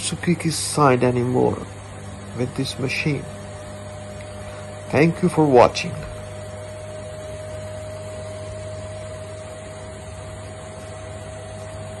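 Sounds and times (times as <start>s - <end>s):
constant tone: 0.0s - 12.0s
washing machine humming: 0.0s - 12.0s.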